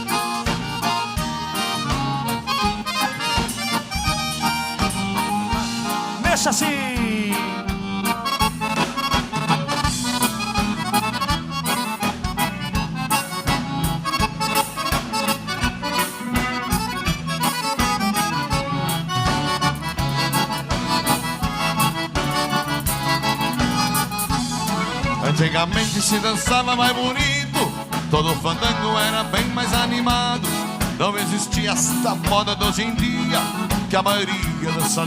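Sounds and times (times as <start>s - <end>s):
accordion melody: 0.0s - 35.0s
bass: 0.0s - 35.0s
steady drum beat: 0.0s - 35.0s.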